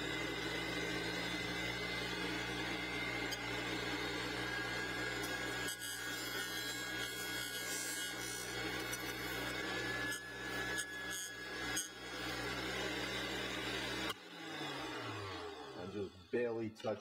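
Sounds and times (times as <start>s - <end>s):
juicer motor humming: 0.0s - 16.4s.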